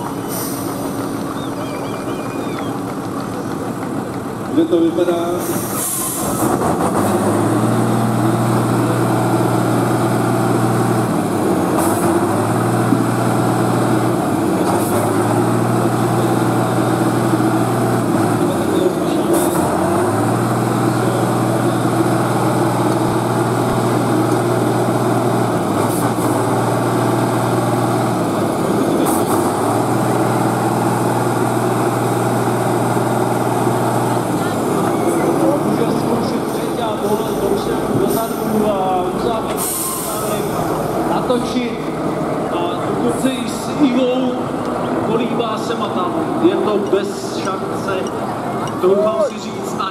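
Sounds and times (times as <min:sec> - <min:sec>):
truck diesel engine under load: 0:00.0 - 0:49.9.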